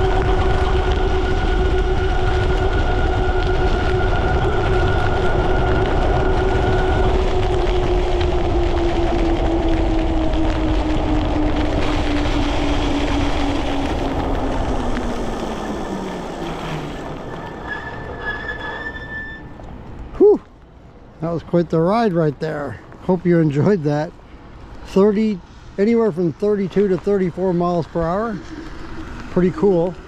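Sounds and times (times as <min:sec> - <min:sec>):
wind noise: 0:00.0 - 0:18.2, 0:21.0 - 0:30.0.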